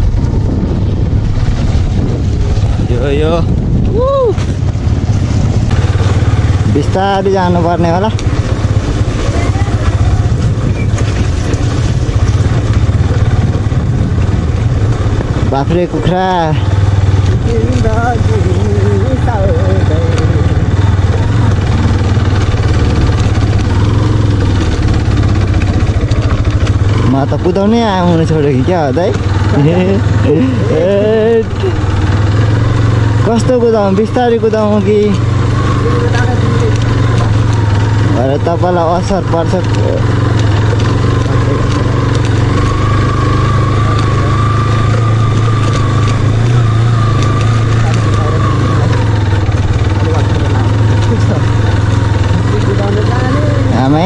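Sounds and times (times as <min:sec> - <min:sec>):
motorcycle engine at low speed: 0:00.0 - 0:54.0.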